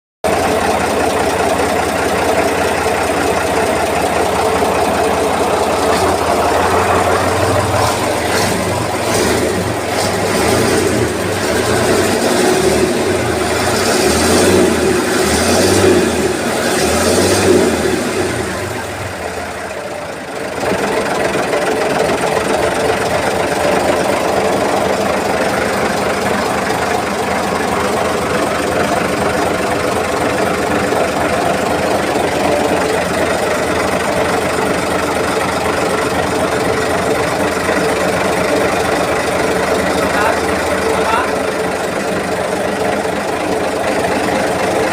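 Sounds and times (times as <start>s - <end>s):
boat engine running: 0.3s - 44.9s.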